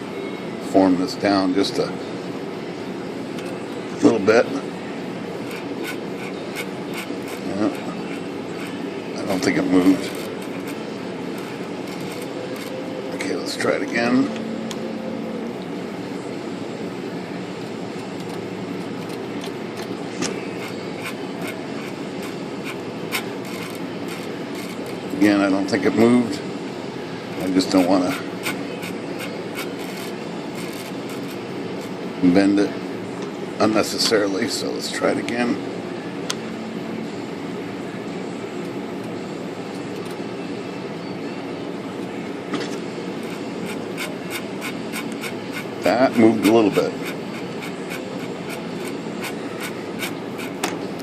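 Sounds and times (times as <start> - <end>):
steady background hum: 0.0 - 51.0
ventilation noise: 0.0 - 51.0.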